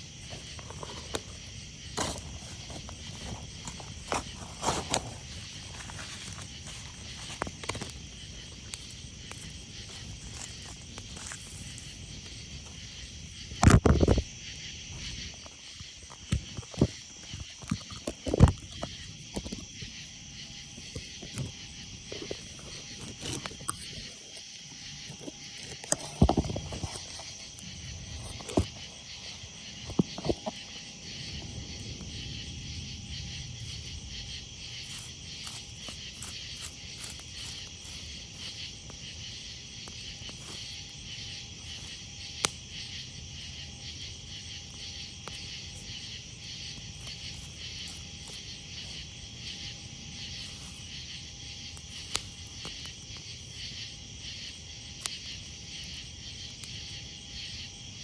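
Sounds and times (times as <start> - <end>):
campfire crackling: 0.0 - 58.0
insects chirping: 0.0 - 58.0.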